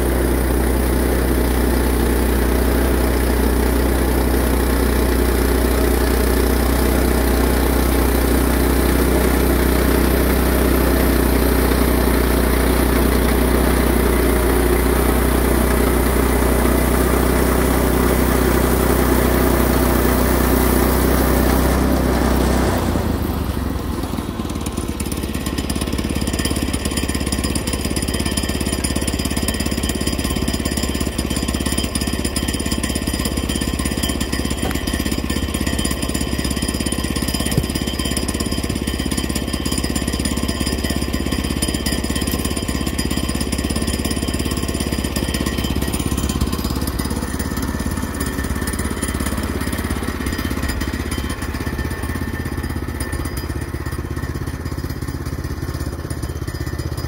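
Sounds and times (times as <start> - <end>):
bandsaw mill engine under load: 0.0 - 57.0
saw blade cutting log: 0.0 - 57.0.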